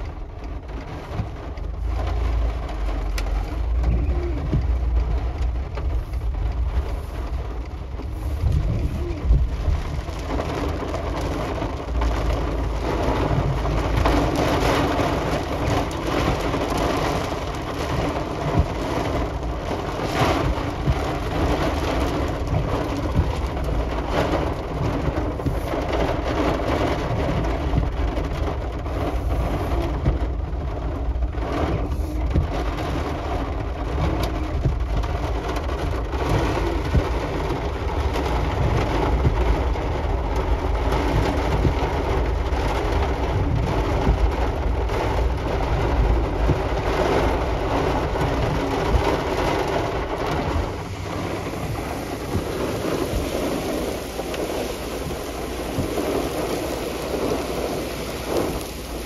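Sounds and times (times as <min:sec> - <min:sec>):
low rumble: 0:00.0 - 0:26.4, 0:27.4 - 0:59.0
heavy rain pouring: 0:00.0 - 0:59.0
raindrop hits: 0:00.0 - 0:59.0.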